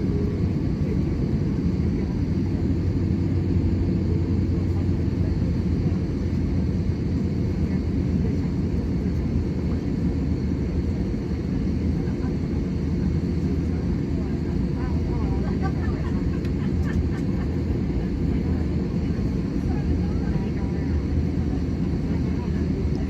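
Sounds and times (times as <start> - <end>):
airplane engines rumbling in cabin: 0.0 - 23.0.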